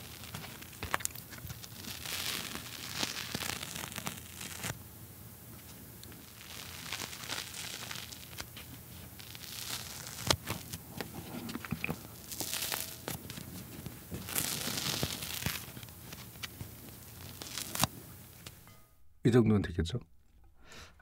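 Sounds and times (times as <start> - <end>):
soft dough tearing: 0.0 - 4.8, 5.6 - 18.6.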